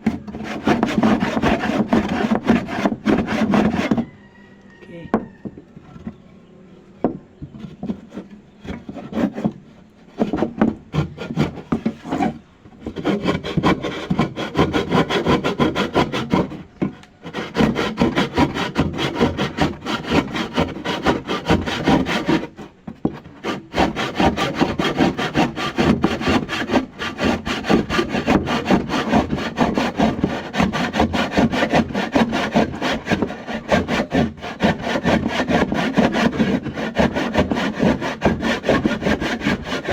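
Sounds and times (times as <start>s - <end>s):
hand saw cutting: 0.0s - 4.1s, 7.6s - 39.9s.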